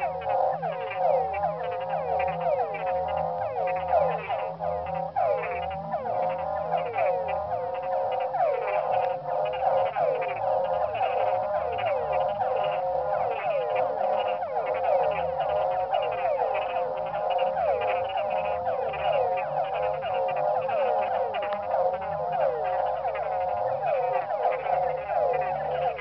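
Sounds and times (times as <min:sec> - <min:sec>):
chorus of frogs calling: 0:00.0 - 0:26.0
low pulsing drone: 0:00.0 - 0:26.0.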